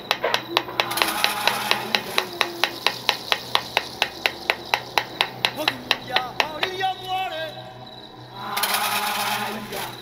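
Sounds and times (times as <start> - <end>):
steady rhythmic clicking: 0.0 - 10.0.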